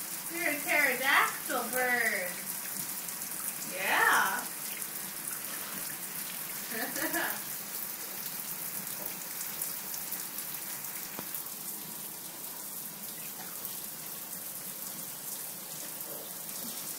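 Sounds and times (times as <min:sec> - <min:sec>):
shower water spraying: 0:00.0 - 0:16.9.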